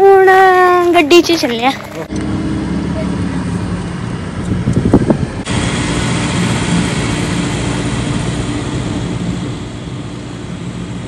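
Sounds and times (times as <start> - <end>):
faint low engine hum: 0.0 - 11.0
road and wind noise in car: 0.0 - 11.0.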